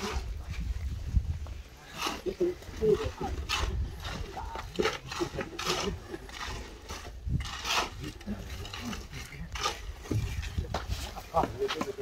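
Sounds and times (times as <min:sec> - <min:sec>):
shovels scraping concrete mix: 0:00.0 - 0:00.8, 0:01.6 - 0:12.0.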